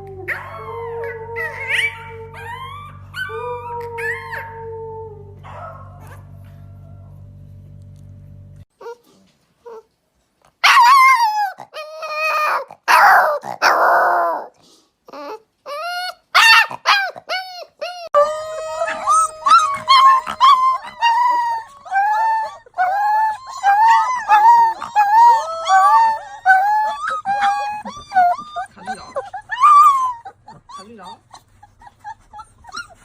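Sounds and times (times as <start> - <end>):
puppies whimpering and crying: 0.0 - 7.1, 8.7 - 9.9, 10.6 - 33.0
long puppy whine: 0.0 - 8.1, 8.7 - 9.9, 10.6 - 33.0.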